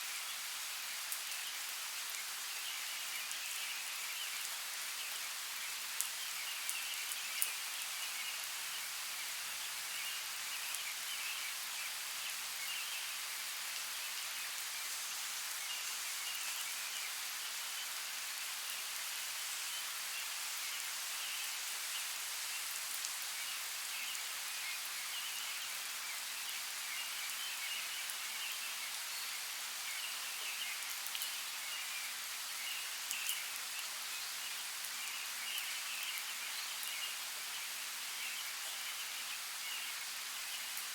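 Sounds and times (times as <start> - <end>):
running water hiss: 0.0 - 40.9.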